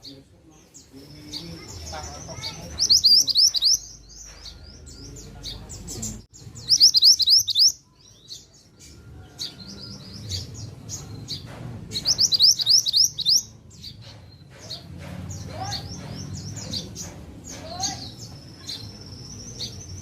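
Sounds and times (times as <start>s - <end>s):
bird singing sweeping chirps: 0.0s - 20.0s.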